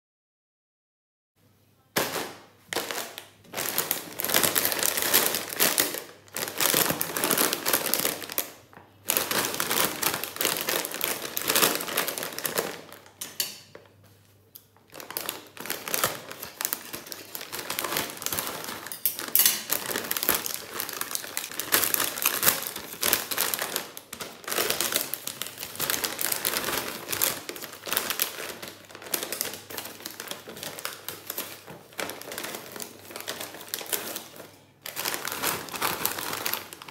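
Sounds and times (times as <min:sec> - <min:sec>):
foil chip bag crinkling: 0:02.0 - 0:13.9, 0:14.8 - 0:36.9.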